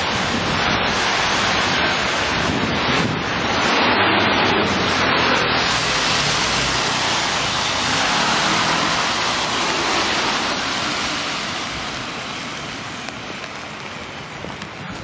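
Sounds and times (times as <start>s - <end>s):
car tyres hissing on wet street: 0.0s - 15.0s
heavy rain: 0.0s - 15.0s.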